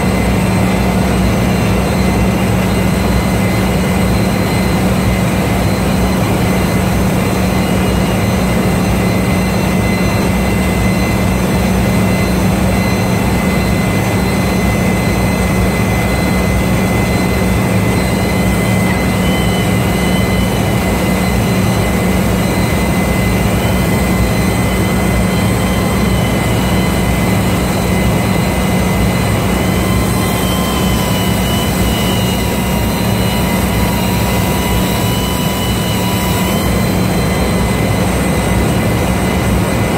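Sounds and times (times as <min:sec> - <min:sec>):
faint wavering squeal: 0:00.0 - 0:39.9.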